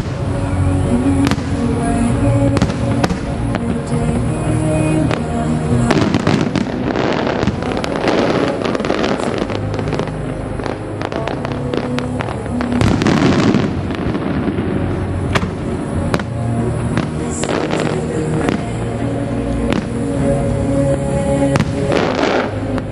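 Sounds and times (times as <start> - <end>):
fireworks bursting with bangs: 0.0 - 22.9
fireworks crackling: 0.0 - 22.9
music playing: 0.0 - 22.9.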